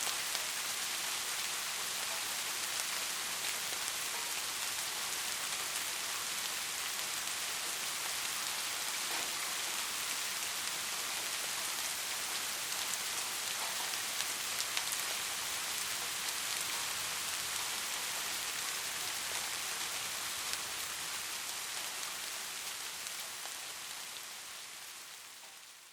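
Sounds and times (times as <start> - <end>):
soft steady rain: 0.0 - 25.9.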